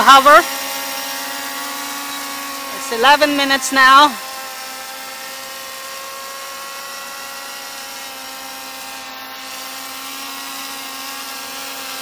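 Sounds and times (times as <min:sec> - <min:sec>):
quadcopter propellers buzzing whine: 0:00.0 - 0:12.0.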